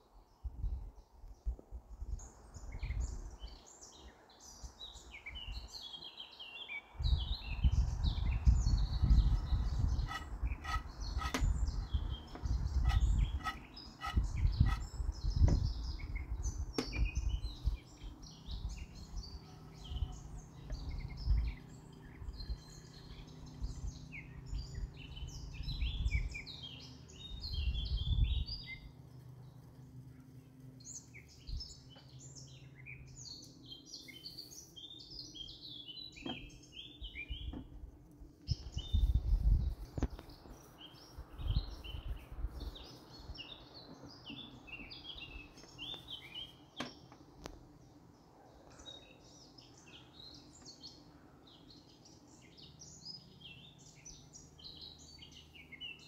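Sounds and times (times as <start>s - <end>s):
birds chirping and singing: 2.2s - 56.0s.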